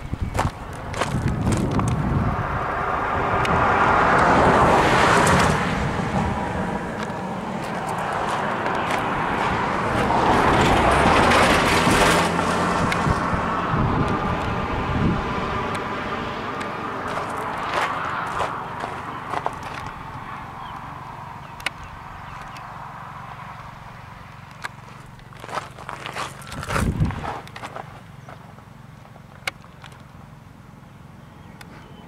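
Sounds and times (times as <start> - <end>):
road vehicles passing by: 0.0 - 32.0.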